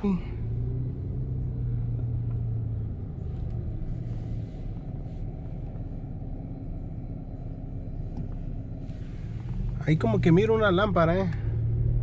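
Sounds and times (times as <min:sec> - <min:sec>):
engine and road rumble: 0:00.0 - 0:12.0
steady engine hum: 0:00.0 - 0:12.0.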